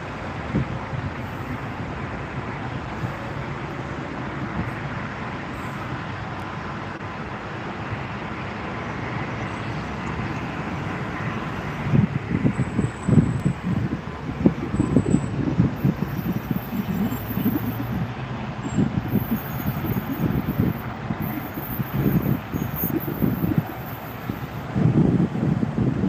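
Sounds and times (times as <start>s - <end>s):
distant jet engines roaring: 0.0s - 26.0s
wind buffeting microphone: 0.0s - 26.0s.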